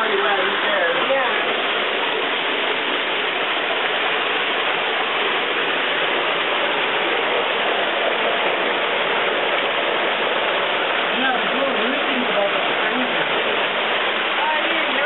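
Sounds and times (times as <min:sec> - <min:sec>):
waterfall splashing on rock: 0:00.0 - 0:15.0.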